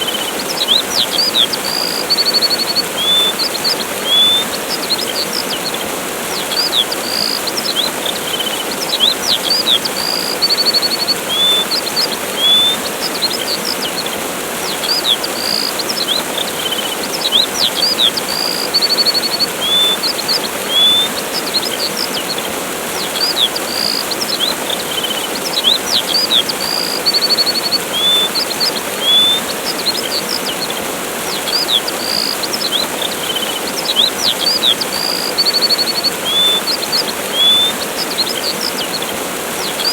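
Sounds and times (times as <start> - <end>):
small birds chirping: 0.0 - 39.9
waterfall rushing: 0.0 - 39.9.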